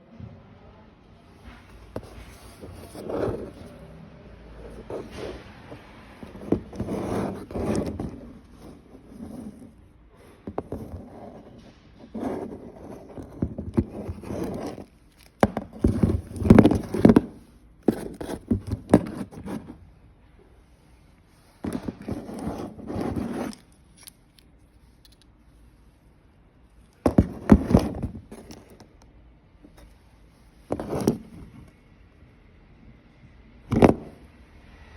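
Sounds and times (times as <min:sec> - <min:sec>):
scraping and crackling handling noise: 0:01.4 - 0:03.8, 0:04.6 - 0:31.8.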